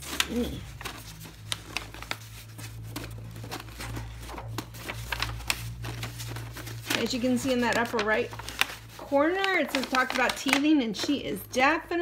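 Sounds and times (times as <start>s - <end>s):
paper rustling and crinkling: 0.0s - 11.2s
low steady hum: 0.0s - 12.0s.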